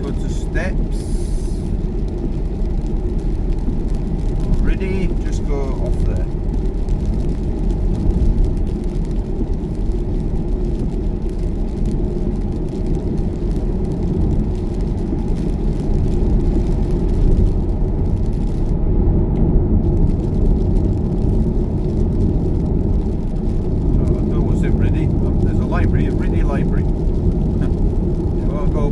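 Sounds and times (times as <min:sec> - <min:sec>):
road and tyre noise in car cabin: 0:00.0 - 0:28.9.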